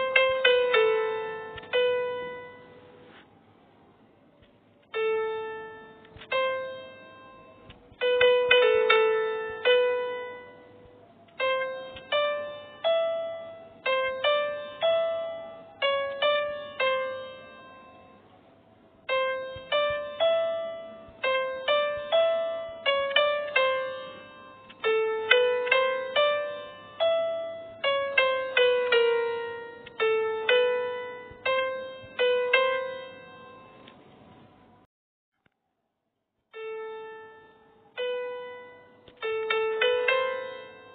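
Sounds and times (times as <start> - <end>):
piano melody: 0.0 - 3.2, 4.7 - 34.9, 36.6 - 40.9.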